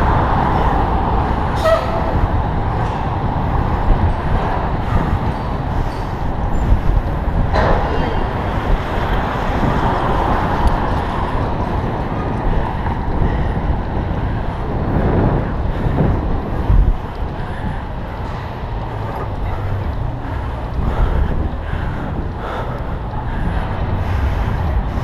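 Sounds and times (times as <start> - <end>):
city traffic noise: 0.0 - 25.0
wind buffeting microphone: 0.0 - 25.0.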